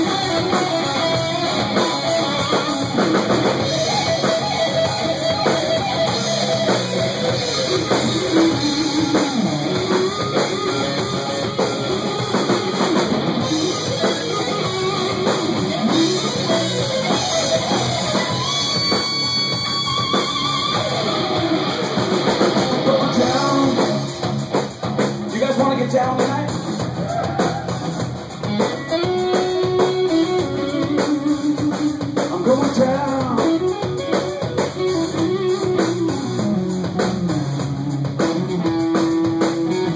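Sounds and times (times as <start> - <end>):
electric guitar solo: 0.0 - 24.2, 27.0 - 32.2, 32.9 - 39.9
drum kit: 0.0 - 39.9.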